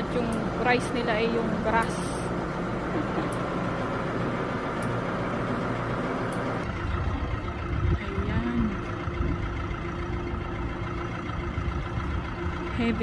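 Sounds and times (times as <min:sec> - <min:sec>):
tractor engine rumbling: 0:00.0 - 0:13.0.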